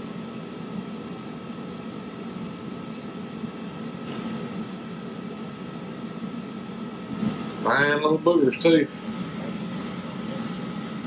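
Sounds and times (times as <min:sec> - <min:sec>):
faint high whine: 0:00.0 - 0:11.0
machine hum: 0:00.0 - 0:11.0.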